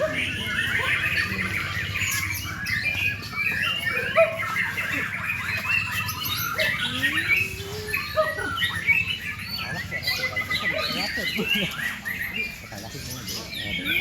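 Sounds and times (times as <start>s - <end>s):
bird singing chirps and whistles: 0.0s - 14.0s.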